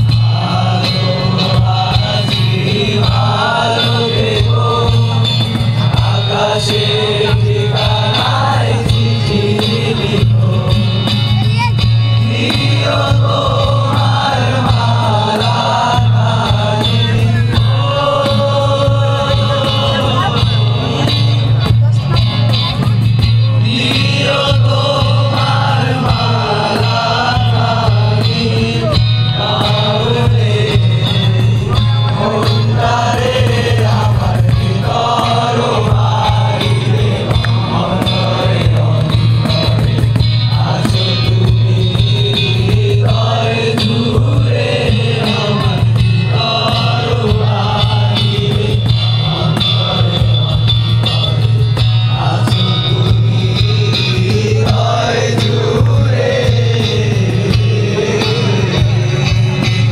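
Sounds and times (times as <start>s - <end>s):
acoustic guitars: 0.0s - 59.9s
cajon beat: 0.0s - 59.9s
young men singing together: 0.0s - 59.9s.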